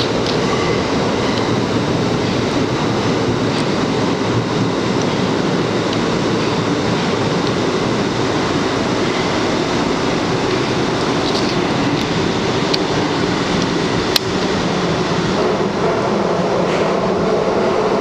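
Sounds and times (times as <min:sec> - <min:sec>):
subway car running through tunnel: 0:00.0 - 0:18.0.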